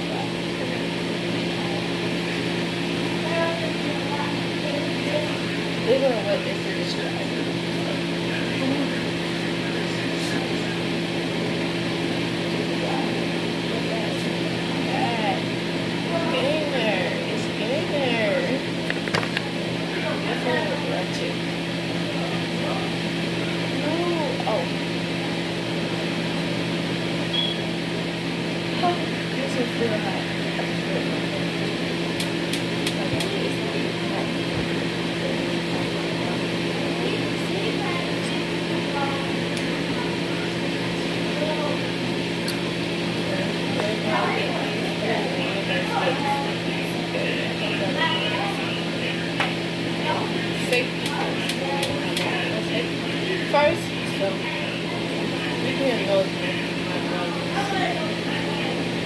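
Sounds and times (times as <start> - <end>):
appliance mechanical hum: 0.0 - 59.0.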